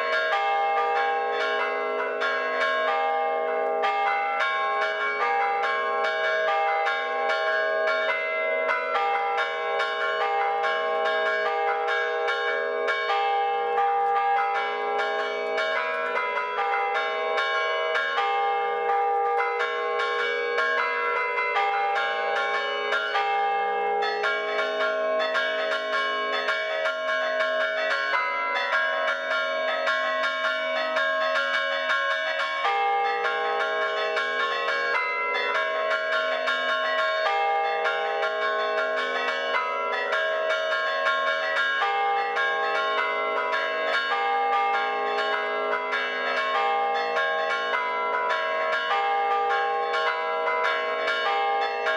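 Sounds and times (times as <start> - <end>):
church bells pealing: 0.0 - 51.9.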